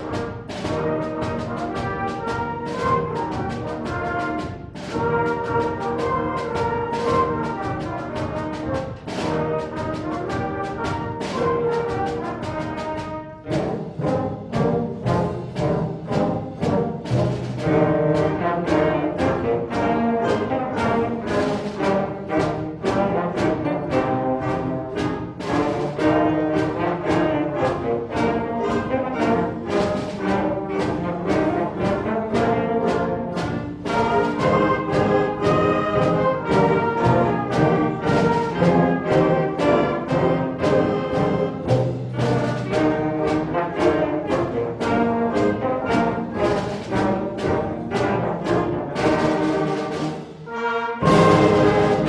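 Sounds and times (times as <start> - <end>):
concert band playing: 0.0 - 52.0
percussion beat: 0.0 - 52.0.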